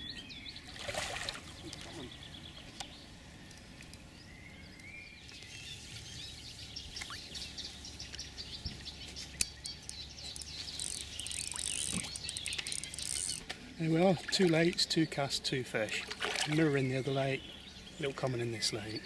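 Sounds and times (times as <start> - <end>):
birds chirping and singing: 0.0 - 19.0.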